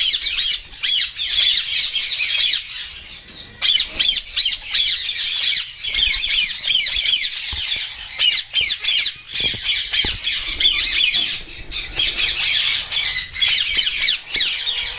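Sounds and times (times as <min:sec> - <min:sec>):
parrot chicks squawking: 0:00.0 - 0:14.9.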